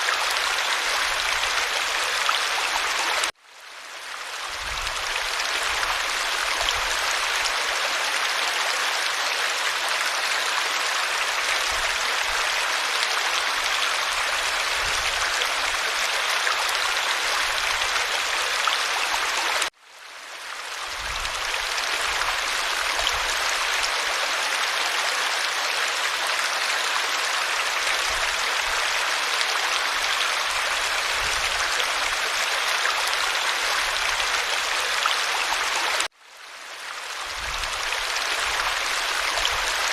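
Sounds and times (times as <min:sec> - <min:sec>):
stream babbling and rushing: 0:00.0 - 0:39.9.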